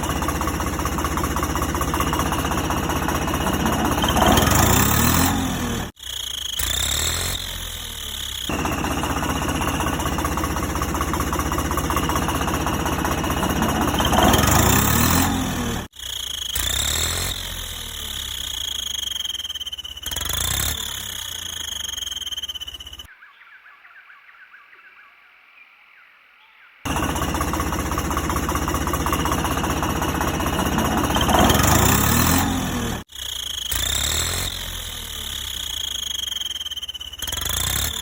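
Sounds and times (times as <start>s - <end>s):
toy vehicle engine rattling: 0.0s - 23.1s, 26.9s - 38.0s.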